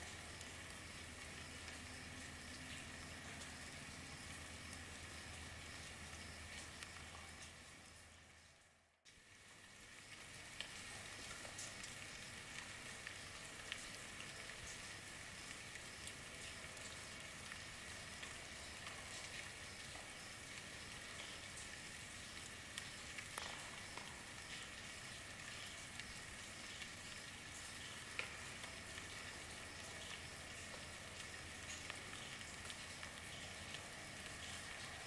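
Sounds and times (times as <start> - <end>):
steady rainfall: 0.0 - 35.0.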